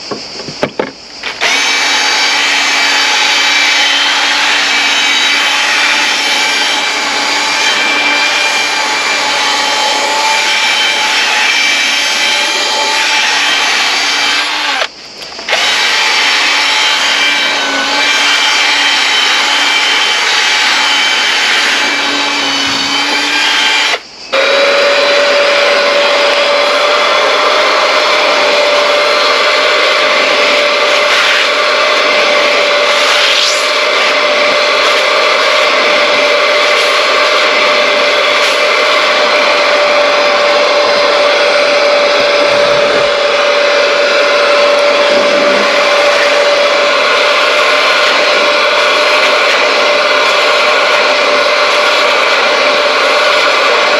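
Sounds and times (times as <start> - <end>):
electric motor whining: 0.0 - 53.9.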